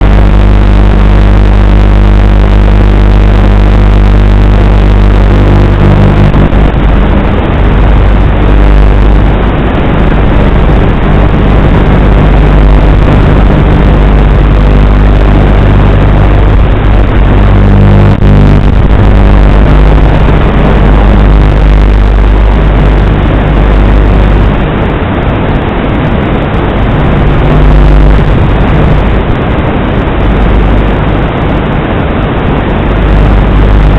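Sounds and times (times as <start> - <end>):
low drone: 0.0 - 33.9
strong wind on microphone: 0.0 - 33.9.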